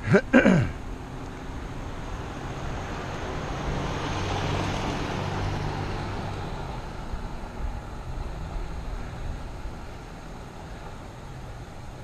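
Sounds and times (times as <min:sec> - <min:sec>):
road noise rush: 0:00.0 - 0:12.0
car driving past: 0:00.8 - 0:11.6.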